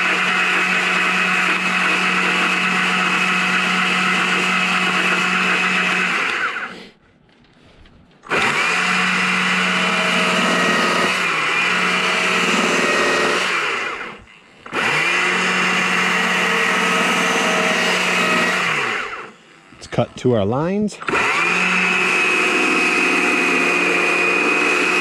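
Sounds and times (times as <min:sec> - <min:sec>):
chainsaw cutting wood: 0:00.0 - 0:07.0, 0:08.2 - 0:20.1, 0:21.0 - 0:25.0.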